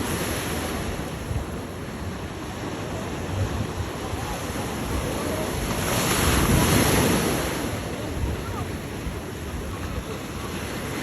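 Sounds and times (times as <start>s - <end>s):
ocean surf on beach: 0.0s - 11.0s
wind buffeting microphone: 0.0s - 11.0s.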